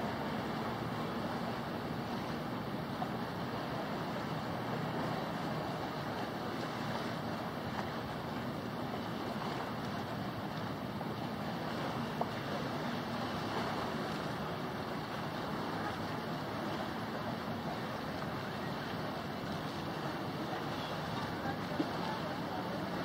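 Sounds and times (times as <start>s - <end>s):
lake water lapping: 0.0s - 23.0s
wind: 0.0s - 23.0s.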